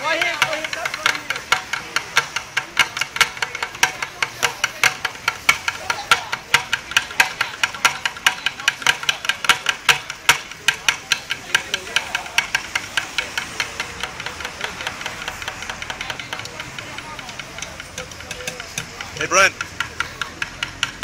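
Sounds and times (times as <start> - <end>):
drumsticks hitting plastic buckets: 0.0 - 21.0.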